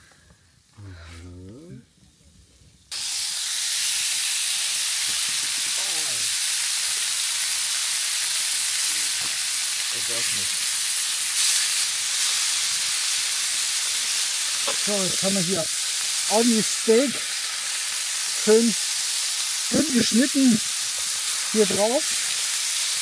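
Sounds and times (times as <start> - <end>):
steak sizzling in a pan: 2.9 - 23.0.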